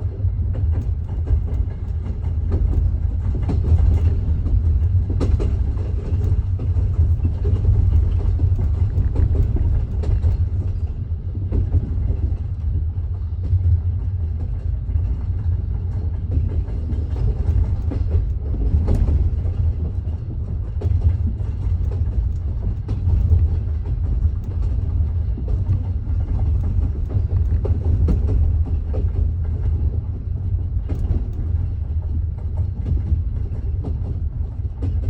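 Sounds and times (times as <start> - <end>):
railway carriage rumble: 0.0 - 35.0
train wheels clickety-clack: 0.0 - 35.0.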